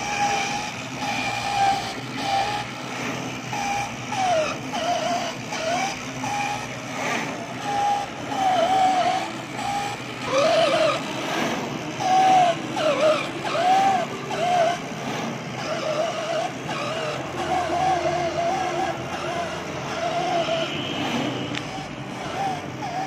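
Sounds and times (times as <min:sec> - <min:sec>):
drive motors whining: 0:00.0 - 0:23.0.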